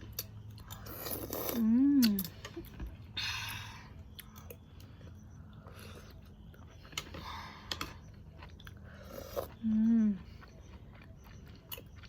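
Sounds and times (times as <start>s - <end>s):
person chewing: 0.0s - 3.1s, 3.9s - 12.0s.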